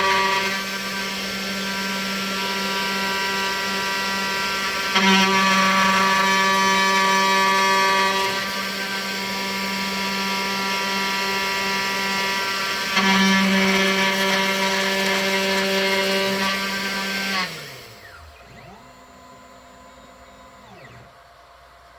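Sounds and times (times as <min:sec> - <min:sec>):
router spindle motor whining: 0:00.0 - 0:21.9.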